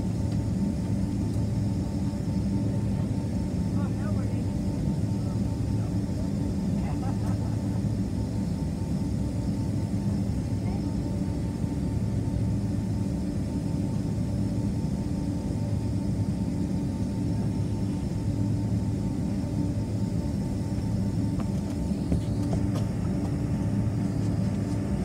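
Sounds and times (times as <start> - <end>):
jet engines humming in cabin: 0.0 - 25.0.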